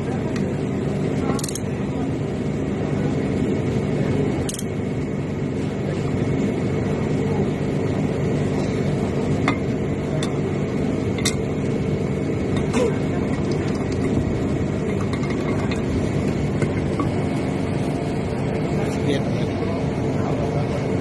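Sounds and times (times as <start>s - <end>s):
engine-room machinery drone: 0.0s - 21.0s.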